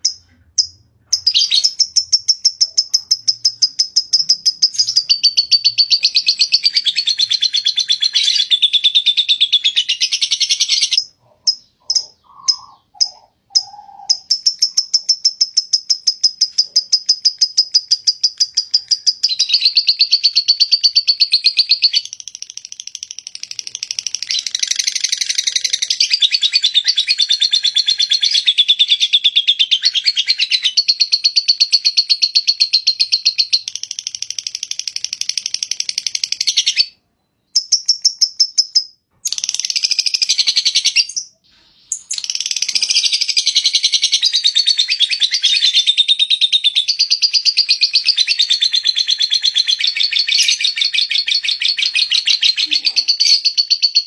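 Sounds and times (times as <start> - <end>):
lovebird chattering song: 0.0 - 54.0.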